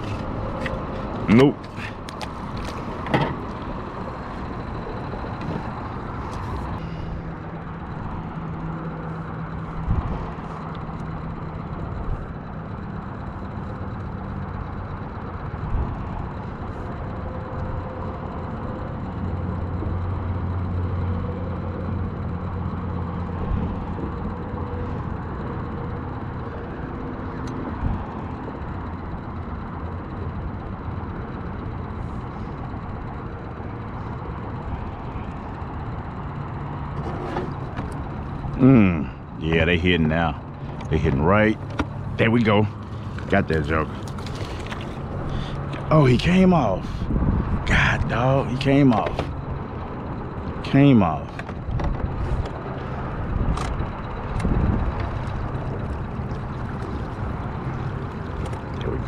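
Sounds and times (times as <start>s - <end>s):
boat motor humming: 0.0s - 59.0s.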